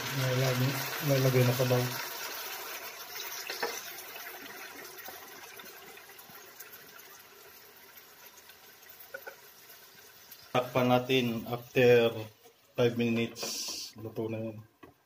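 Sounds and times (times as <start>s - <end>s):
broth splashing into hot pan: 0.0s - 14.0s.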